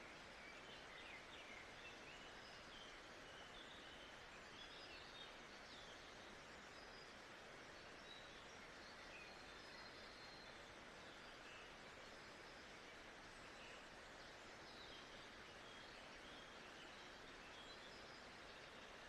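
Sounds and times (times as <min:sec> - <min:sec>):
soft hiss: 0:00.0 - 0:19.0.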